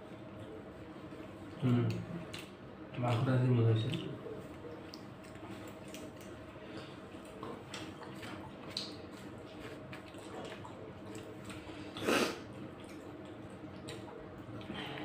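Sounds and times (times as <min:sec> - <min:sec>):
open-mouth chewing: 0:00.2 - 0:02.9, 0:04.2 - 0:15.0.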